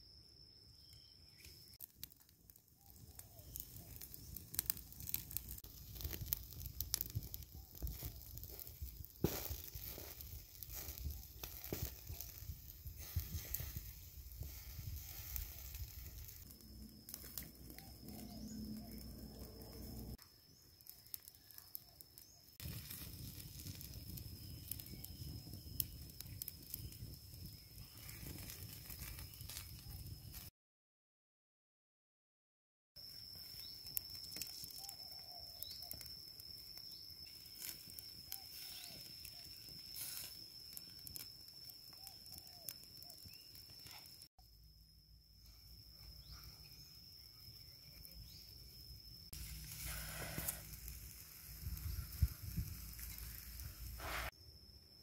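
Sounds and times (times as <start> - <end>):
wood fire crackling and popping: 1.3 - 30.5, 33.0 - 44.3, 47.0 - 54.4.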